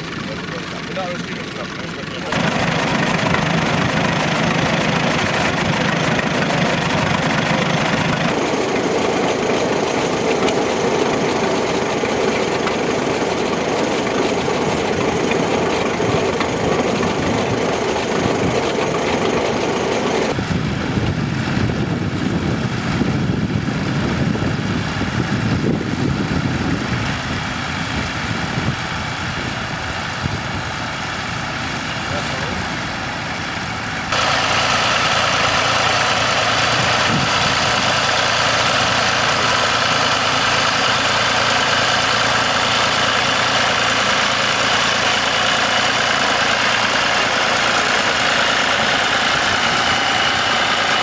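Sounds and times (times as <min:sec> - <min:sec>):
tractor engines running: 0:00.0 - 0:51.0.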